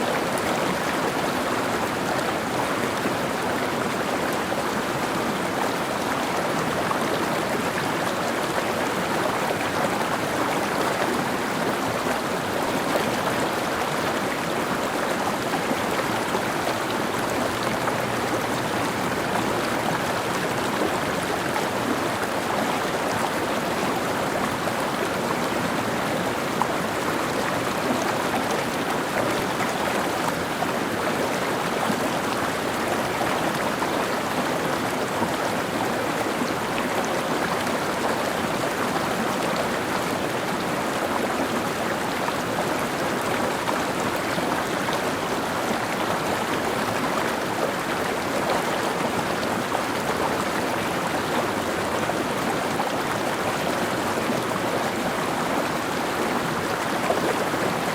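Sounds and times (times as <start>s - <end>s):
mountain stream babbling over rocks: 0.0s - 57.9s.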